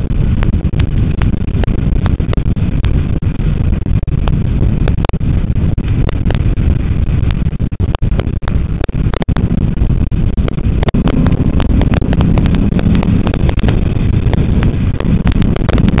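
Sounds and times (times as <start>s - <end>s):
car engine rumble: 0.0s - 16.0s
wind buffeting microphone: 0.0s - 16.0s.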